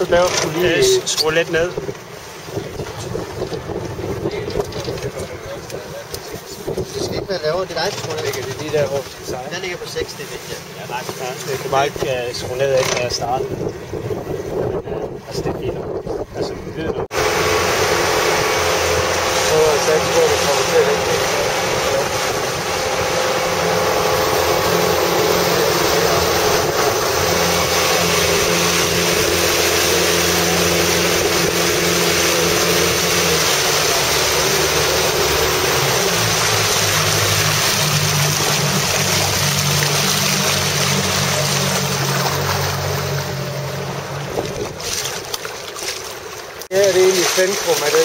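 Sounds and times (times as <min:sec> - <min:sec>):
motorboat engine running: 0:00.0 - 0:48.0
water rushing along hull: 0:00.0 - 0:48.0.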